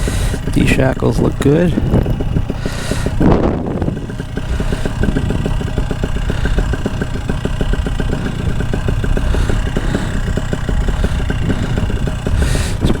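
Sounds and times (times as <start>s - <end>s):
paramotor engine idling: 0.0s - 13.0s.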